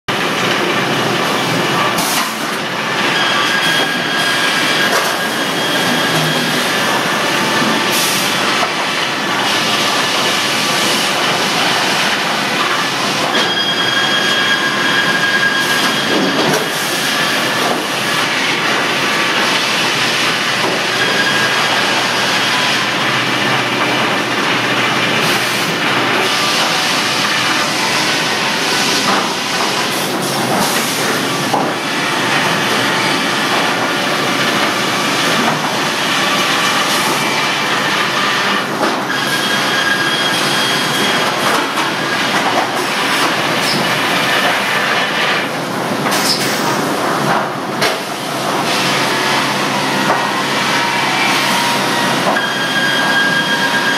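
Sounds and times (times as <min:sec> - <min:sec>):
sawmill machinery clattering: 0:00.1 - 0:53.9
high machine squeal: 0:01.8 - 0:08.6, 0:11.5 - 0:23.6, 0:25.1 - 0:45.4, 0:48.8 - 0:53.9.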